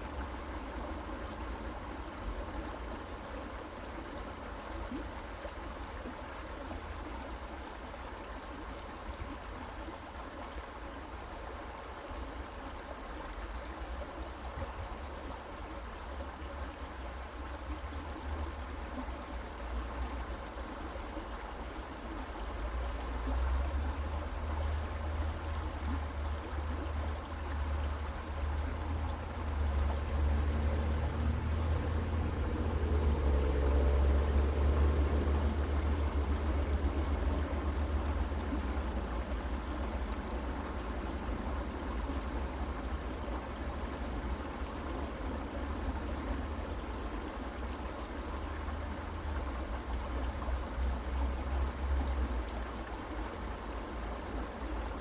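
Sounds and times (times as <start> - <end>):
creek water flowing and trickling: 0.0 - 55.0.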